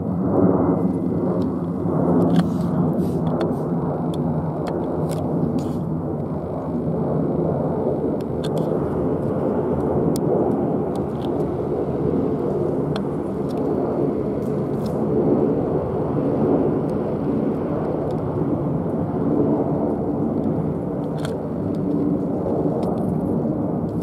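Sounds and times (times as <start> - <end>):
jet airliner climbing overhead: 0.0 - 24.0.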